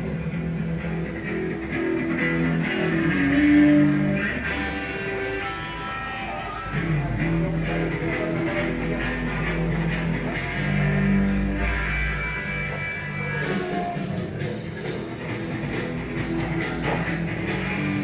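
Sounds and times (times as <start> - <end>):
rock music on radio: 0.0 - 18.0.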